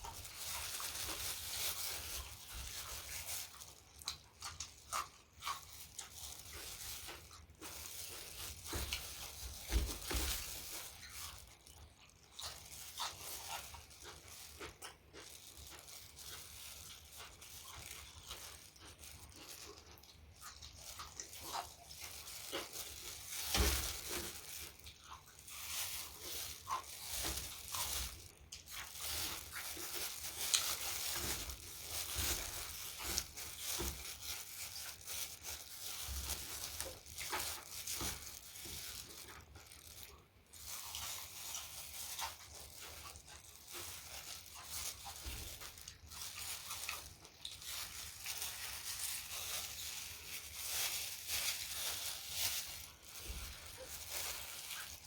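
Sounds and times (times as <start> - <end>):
wet crackling chewing: 0.0 - 55.0.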